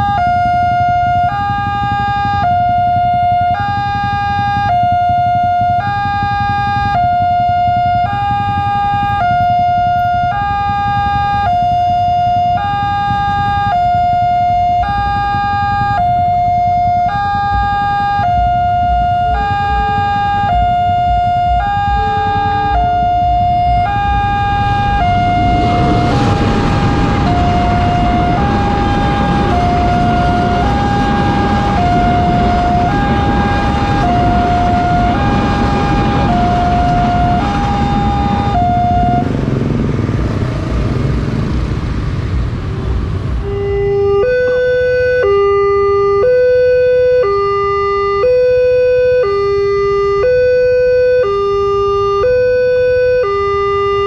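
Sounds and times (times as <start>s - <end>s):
level crossing two-tone alarm: 0.0s - 39.4s, 43.5s - 54.0s
passing train rumble: 0.0s - 54.0s.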